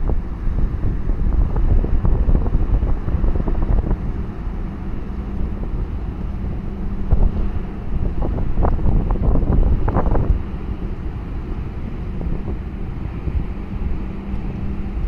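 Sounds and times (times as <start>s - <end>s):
deep uneven rumble: 0.0s - 15.0s
wind buffeting microphone: 0.0s - 15.0s.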